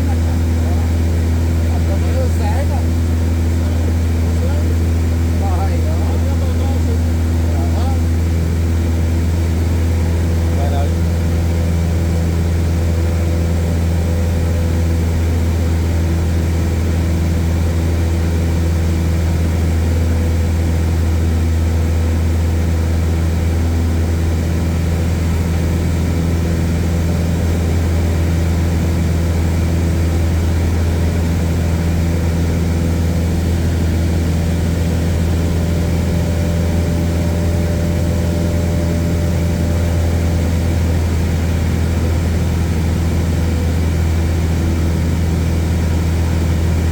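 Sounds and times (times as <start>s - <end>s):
airplane engine droning: 0.0s - 46.9s.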